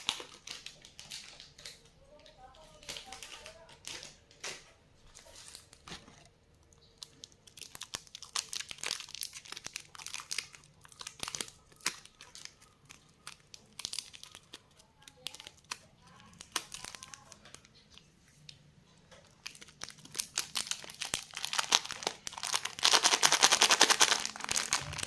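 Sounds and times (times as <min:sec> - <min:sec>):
plastic packaging crinkling and tearing: 0:00.0 - 0:25.0.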